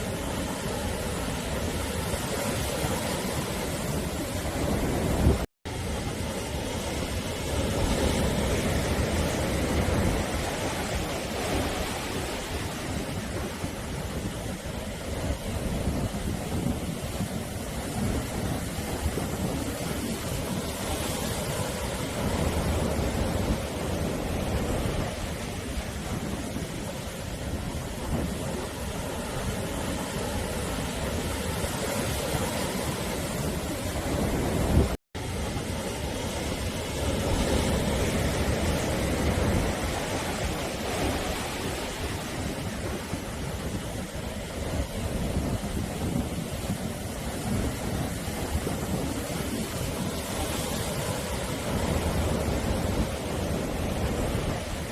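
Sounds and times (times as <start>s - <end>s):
waves washing ashore: 0.0s - 54.9s.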